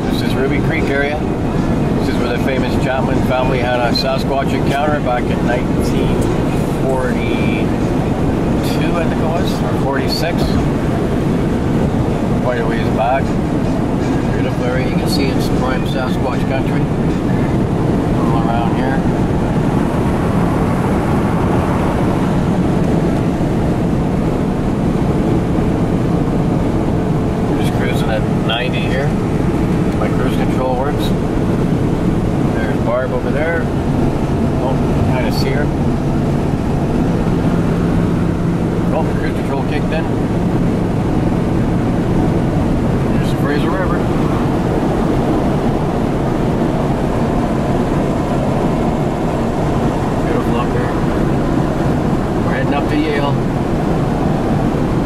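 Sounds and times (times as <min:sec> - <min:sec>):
road and engine noise in car: 0:00.0 - 0:55.0.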